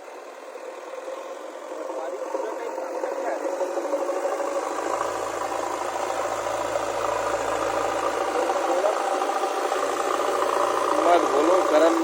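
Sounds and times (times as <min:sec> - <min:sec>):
diesel engine running: 0:00.0 - 0:12.0
low hum: 0:00.0 - 0:12.0.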